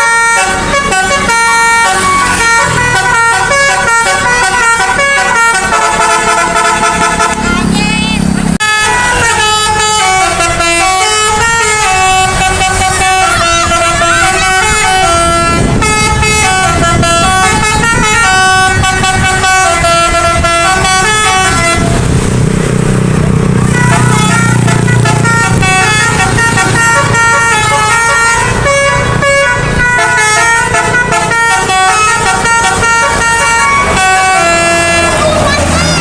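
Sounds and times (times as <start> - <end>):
musical air horn tune: 0.0 - 7.5, 8.6 - 22.2, 23.7 - 36.0.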